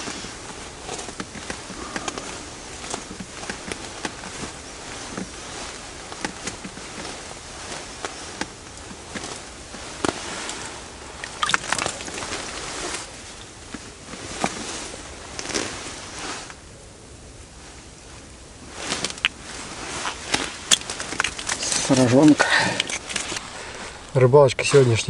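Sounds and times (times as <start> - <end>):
winter clothing rustling: 0.0 - 25.0.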